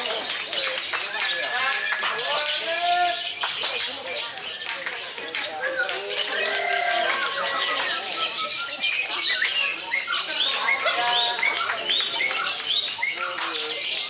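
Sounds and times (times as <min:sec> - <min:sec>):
lovebirds chirping and chattering: 0:00.0 - 0:14.0.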